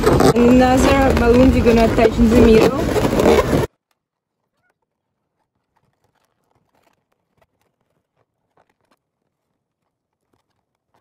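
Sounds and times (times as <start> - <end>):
balloons rustling and clicking: 0.0 - 11.0.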